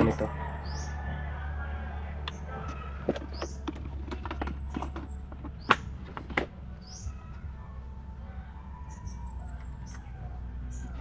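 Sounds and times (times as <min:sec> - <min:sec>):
bird chirping: 0:00.0 - 0:07.6, 0:08.2 - 0:11.0.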